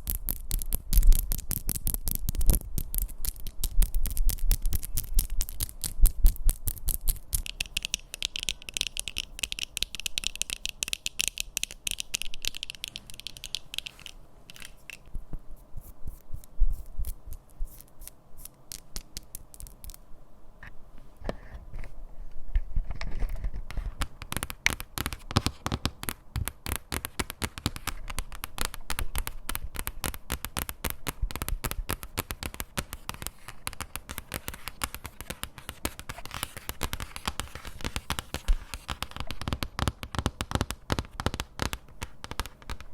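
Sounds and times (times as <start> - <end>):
scratching on objects: 0.0 - 20.0, 21.2 - 42.9
scratchy hiss: 0.0 - 42.9.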